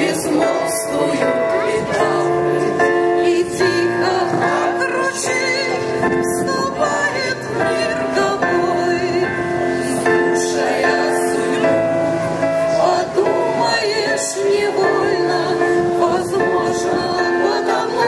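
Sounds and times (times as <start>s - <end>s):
group singing together: 0.0s - 18.0s.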